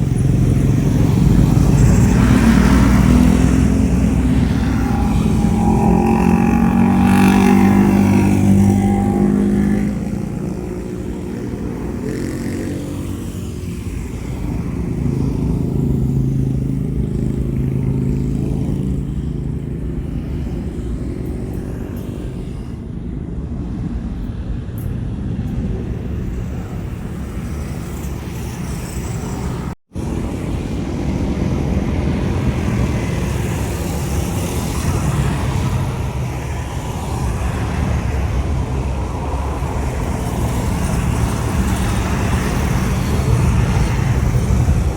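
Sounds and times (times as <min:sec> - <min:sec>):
distant jet engines rumbling: 0:00.0 - 0:44.9
road traffic: 0:00.0 - 0:44.9.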